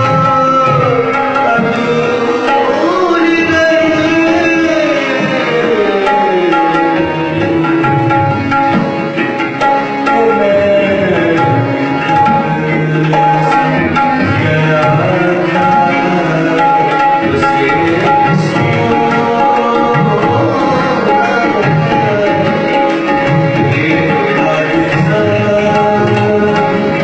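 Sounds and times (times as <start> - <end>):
tabla playing: 0.0 - 27.0.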